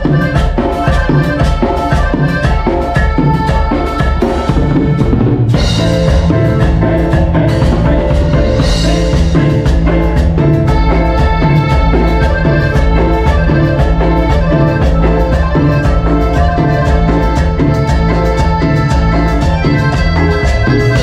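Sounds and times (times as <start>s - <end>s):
live band playing dance music: 0.0s - 21.0s.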